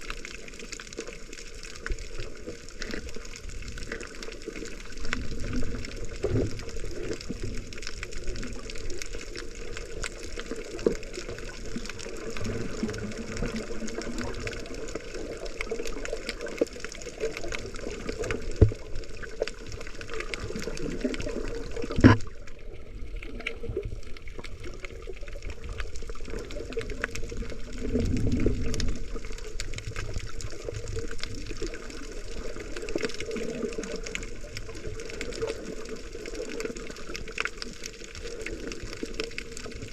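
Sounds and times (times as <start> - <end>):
muffled water sloshing underwater: 0.0 - 39.9.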